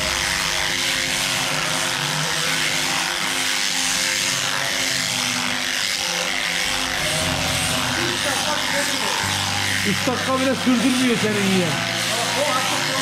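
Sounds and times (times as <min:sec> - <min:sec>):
electric shears buzzing: 0:00.0 - 0:13.0.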